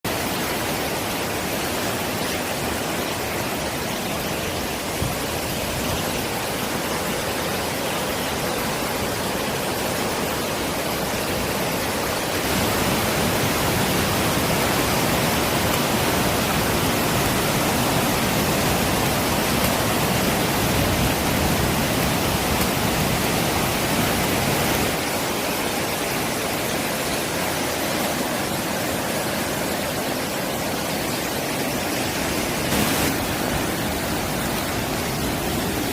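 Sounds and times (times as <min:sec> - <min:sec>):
flooded stream rushing: 0:00.1 - 0:35.9.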